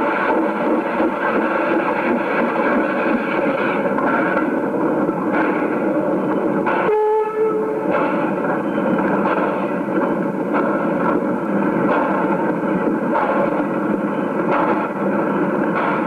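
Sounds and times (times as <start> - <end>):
locomotive exhaust beat: 0.0 - 16.0
steam locomotive rush of steam: 0.0 - 16.0.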